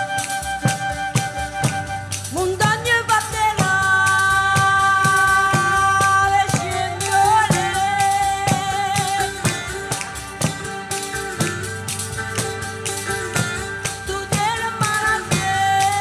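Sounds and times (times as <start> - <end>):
frame drum beat: 0.0 - 16.0
held melody notes: 0.0 - 16.0
strummed guitar: 0.0 - 16.0.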